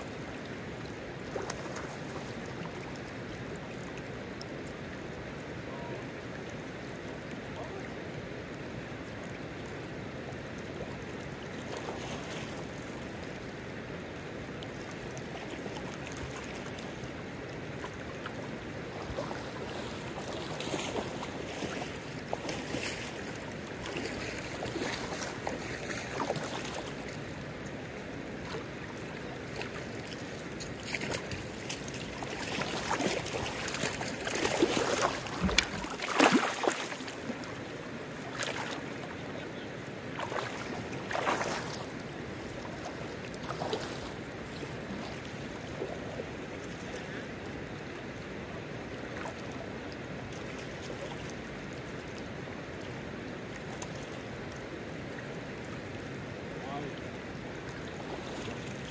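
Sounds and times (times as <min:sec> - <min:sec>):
river running over gravel: 0:00.0 - 0:58.9
water splashes: 0:00.0 - 0:58.9.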